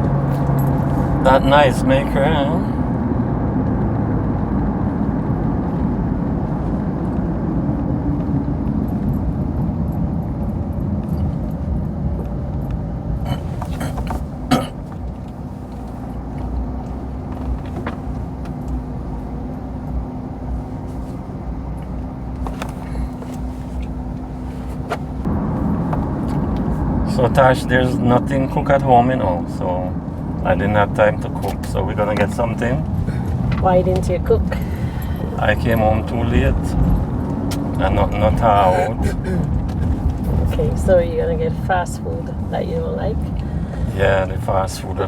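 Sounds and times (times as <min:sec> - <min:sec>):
car cabin road and engine noise: 0:00.0 - 0:45.0.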